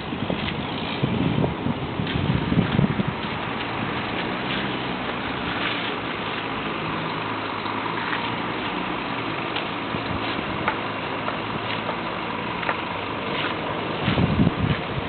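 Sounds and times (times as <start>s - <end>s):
boat engine running at low revs: 0.0s - 15.0s.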